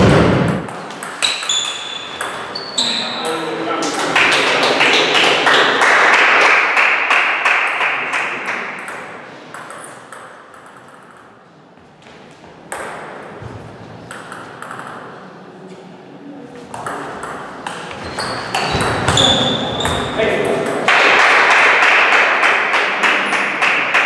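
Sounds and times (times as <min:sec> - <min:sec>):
table tennis balls bouncing: 0:00.0 - 0:11.4, 0:12.3 - 0:15.3, 0:16.7 - 0:24.0.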